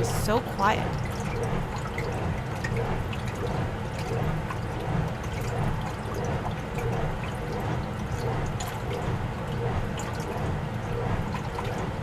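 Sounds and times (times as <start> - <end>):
washing machine motor hum: 0.0 - 12.0
water sloshing in tub: 0.0 - 12.0.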